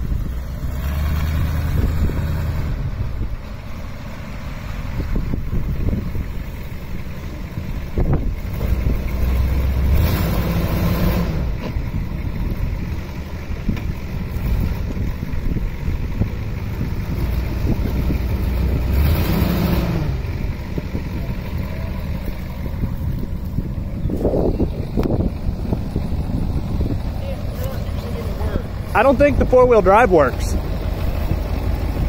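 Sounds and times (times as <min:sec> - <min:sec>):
wind noise on microphone: 0:00.0 - 0:03.5, 0:04.8 - 0:29.6, 0:30.5 - 0:32.0
diesel truck engine revving: 0:00.0 - 0:32.0.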